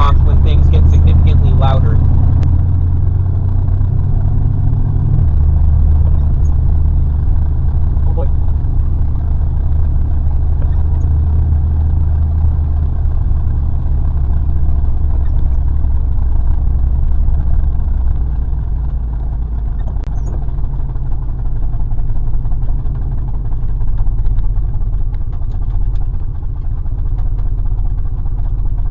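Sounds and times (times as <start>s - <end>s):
pickup truck engine droning: 0.0s - 28.9s.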